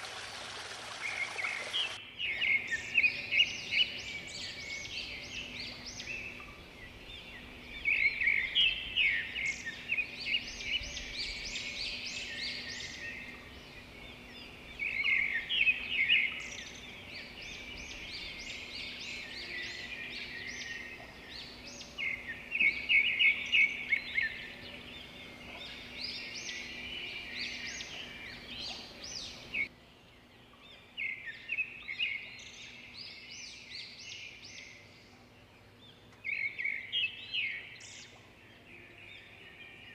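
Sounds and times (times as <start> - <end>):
chaffinch singing: 0.0 - 39.9
small birds chirping: 0.0 - 39.9.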